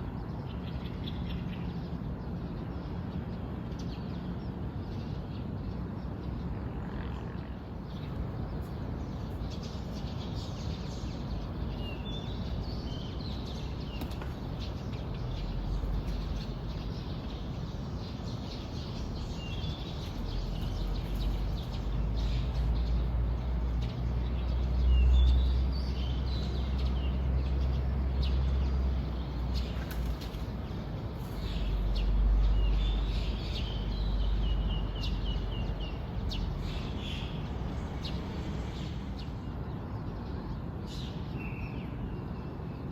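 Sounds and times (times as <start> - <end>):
small birds chirping: 7.4 - 42.2.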